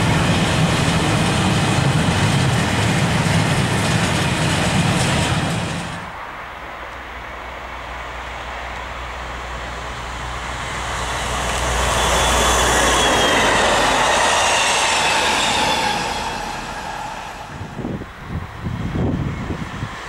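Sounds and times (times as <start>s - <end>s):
train passing at speed: 0.0s - 20.0s.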